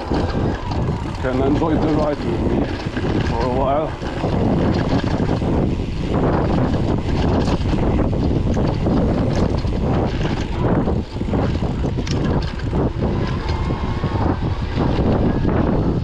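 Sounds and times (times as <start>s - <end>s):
bike knocks and rattles: 0.0s - 16.0s
tyre noise on dirt: 0.0s - 16.0s
wind rumble on microphone: 0.0s - 16.0s.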